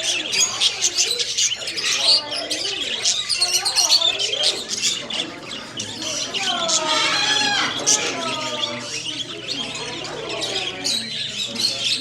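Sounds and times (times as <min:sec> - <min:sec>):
parrots chirping and squawking: 0:00.0 - 0:12.0.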